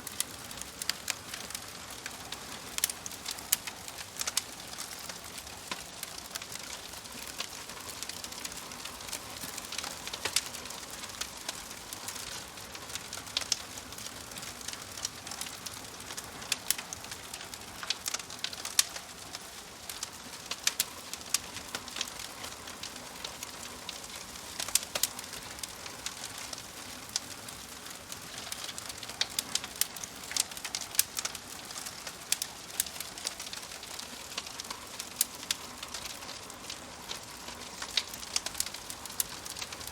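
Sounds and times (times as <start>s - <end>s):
burning logs crackling and popping: 0.0s - 39.9s
wood fire hissing: 0.0s - 39.9s.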